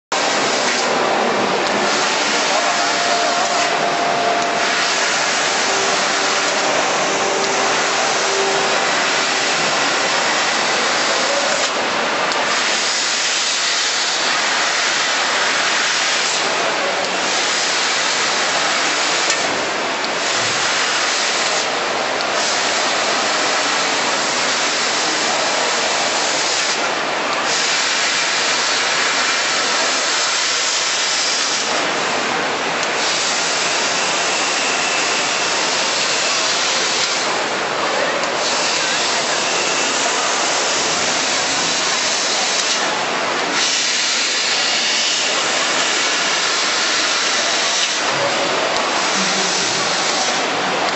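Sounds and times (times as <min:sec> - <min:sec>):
laser cutter gas jet hissing: 0:00.2 - 0:32.2, 0:32.8 - 0:50.9.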